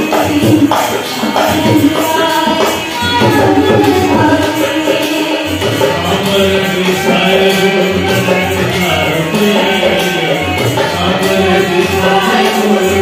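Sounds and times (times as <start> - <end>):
hand drum beat: 0.0 - 13.0.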